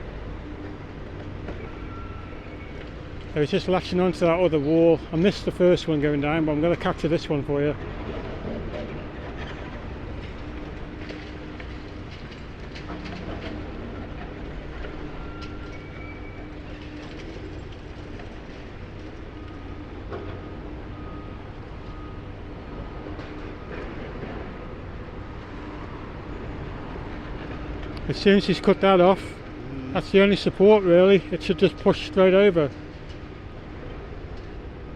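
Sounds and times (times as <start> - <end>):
excavator engine and hydraulics humming: 0.0 - 34.9
knocks and crackles of demolition: 2.5 - 34.9.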